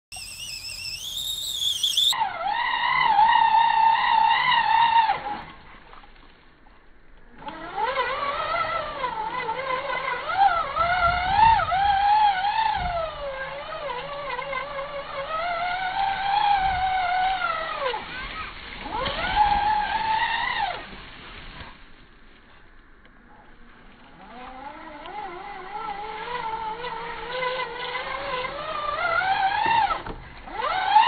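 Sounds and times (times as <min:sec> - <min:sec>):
rc car electric motor whining: 0:00.1 - 0:05.4, 0:07.4 - 0:20.9, 0:24.1 - 0:31.0.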